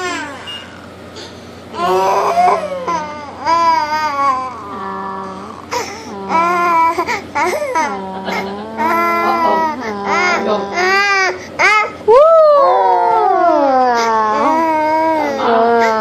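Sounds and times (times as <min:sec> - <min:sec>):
toddler crying: 0:01.8 - 0:16.0.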